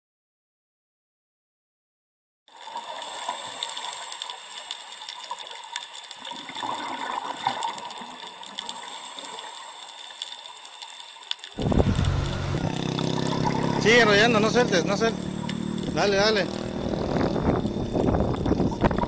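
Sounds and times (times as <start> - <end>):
rushing hissy noise with crackles: 2.5 - 19.0.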